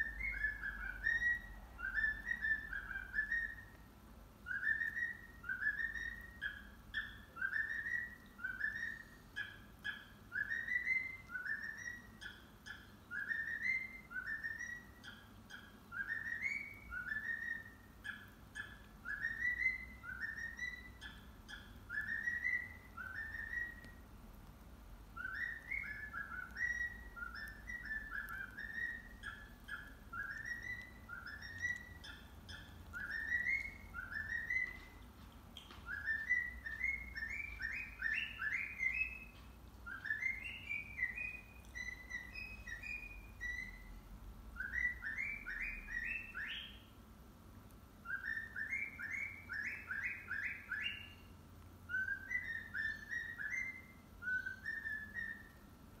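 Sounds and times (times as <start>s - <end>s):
cockatiel whistling a tune: 0.0s - 24.1s, 25.1s - 35.0s, 35.6s - 46.9s, 48.0s - 55.6s.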